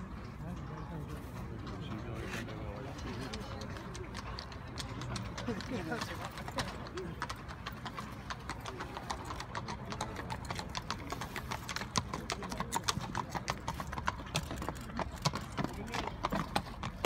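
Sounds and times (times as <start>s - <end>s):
horse hooves on stone: 0.0s - 17.0s.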